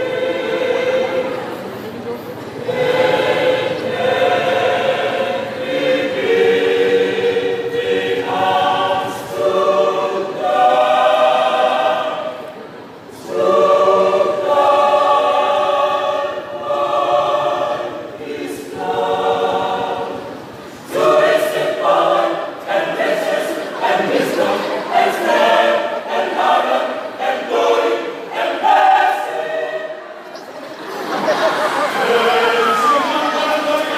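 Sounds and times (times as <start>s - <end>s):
church choir singing in parts: 0.0s - 33.9s.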